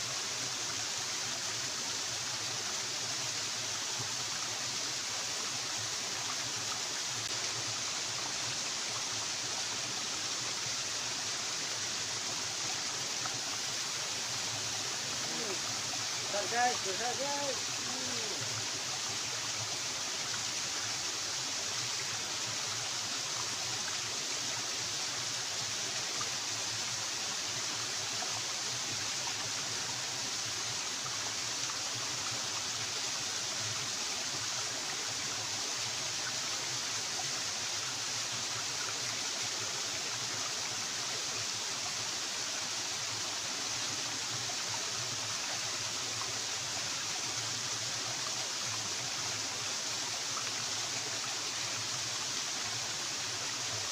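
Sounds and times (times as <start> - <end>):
flowing river water: 0.0 - 53.9.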